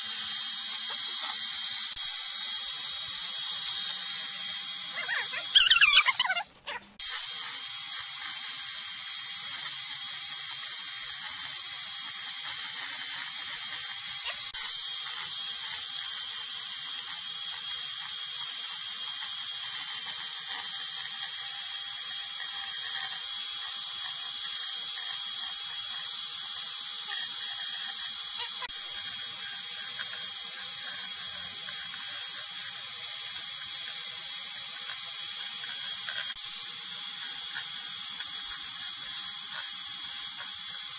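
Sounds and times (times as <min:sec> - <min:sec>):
chainsaw carving into log: 0:00.0 - 0:40.9.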